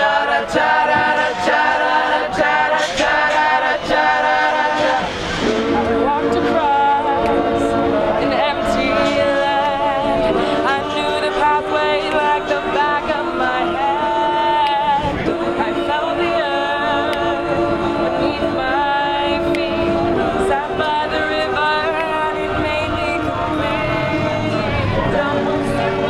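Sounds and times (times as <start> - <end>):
choir singing a cappella: 0.0 - 26.0.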